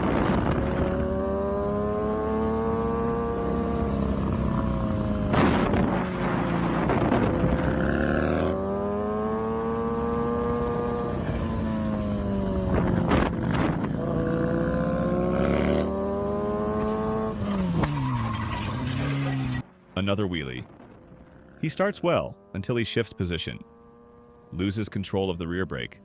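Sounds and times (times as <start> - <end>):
motorcycle engine revving high: 0.0 - 19.6, 20.6 - 26.0.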